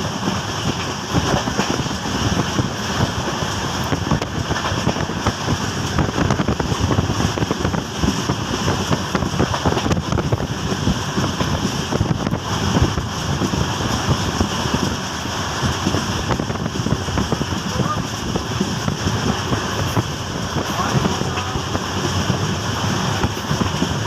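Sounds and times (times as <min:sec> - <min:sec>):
train wheels rumbling on rails: 0:00.0 - 0:24.0
wind buffeting microphone: 0:00.0 - 0:24.0.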